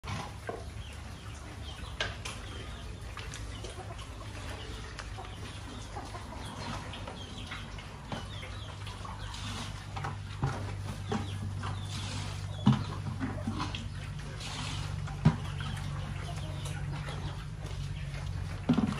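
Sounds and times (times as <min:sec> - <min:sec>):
chickens clucking and chirping: 0:00.0 - 0:18.9.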